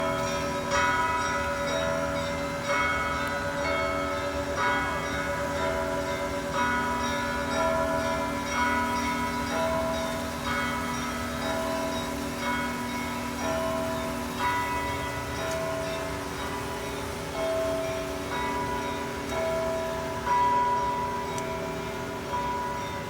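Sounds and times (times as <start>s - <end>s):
bells ringing: 0.0s - 23.0s.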